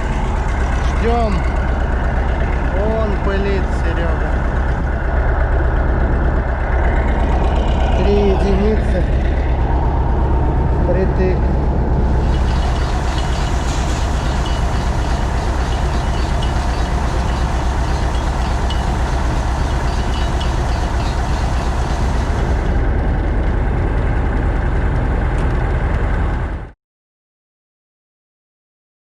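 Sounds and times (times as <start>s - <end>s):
combine harvester running: 0.0s - 26.7s.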